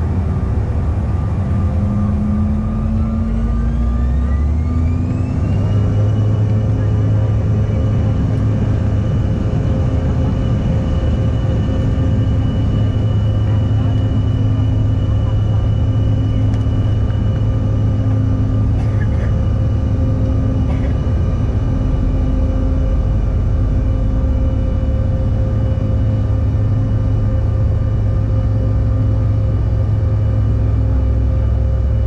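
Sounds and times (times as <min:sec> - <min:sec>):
jet engine roar in cabin: 0:00.0 - 0:32.0
steady whining tones: 0:00.0 - 0:32.0.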